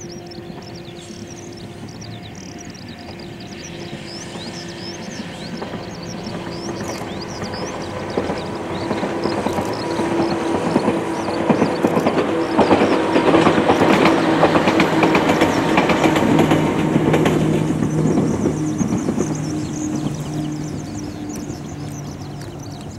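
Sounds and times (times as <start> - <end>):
distant train passing: 0.0 - 22.9
train wheels clicking over rail joints: 0.0 - 22.9.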